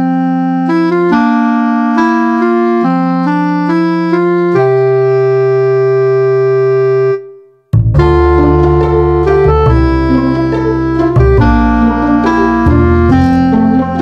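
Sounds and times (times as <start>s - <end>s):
keyboard music: 0.0s - 14.0s.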